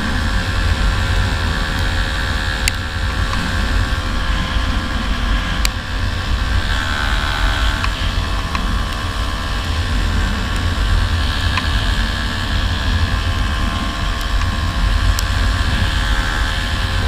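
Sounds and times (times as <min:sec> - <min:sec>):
two-stroke motorcycle running: 0:00.0 - 0:17.0
wind rumble on microphone: 0:00.0 - 0:17.0.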